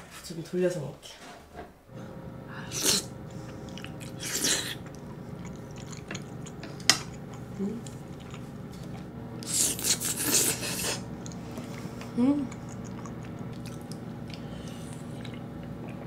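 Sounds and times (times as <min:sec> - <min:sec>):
slurping and chewing: 0:02.6 - 0:16.0.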